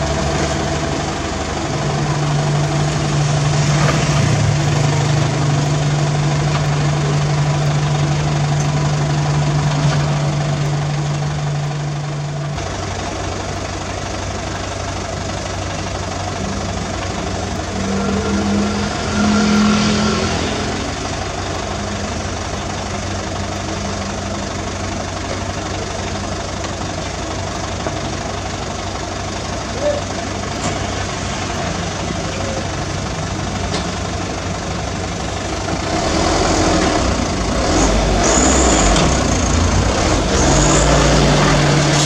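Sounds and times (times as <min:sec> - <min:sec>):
diesel engines humming: 0:00.0 - 0:42.0
higher engine note: 0:00.0 - 0:42.0.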